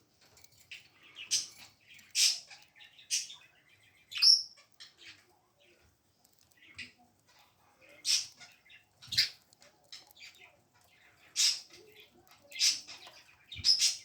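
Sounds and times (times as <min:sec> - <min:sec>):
faint chirping: 0:00.0 - 0:14.0.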